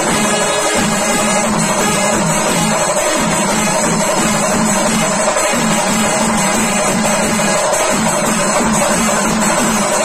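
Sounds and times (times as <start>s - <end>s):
cymbals: 0.0s - 10.0s
massed drums playing: 0.0s - 10.0s.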